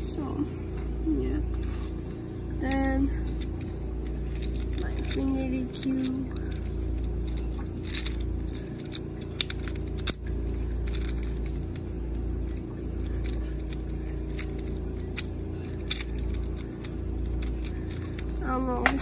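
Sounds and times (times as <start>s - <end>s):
steady low hum: 0.0s - 19.0s
plastic blocks clicking: 2.6s - 19.0s.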